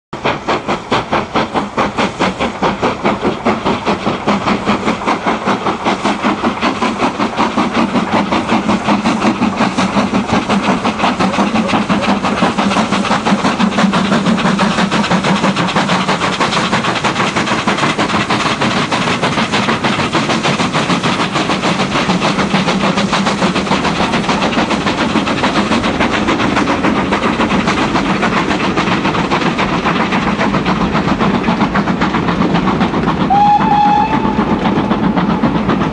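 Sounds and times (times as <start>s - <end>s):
steam hiss: 0.2s - 35.9s
steam locomotive exhaust beats: 0.2s - 35.9s.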